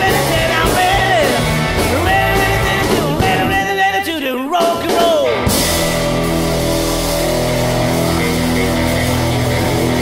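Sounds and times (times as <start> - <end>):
rock band playing: 0.0 - 10.0.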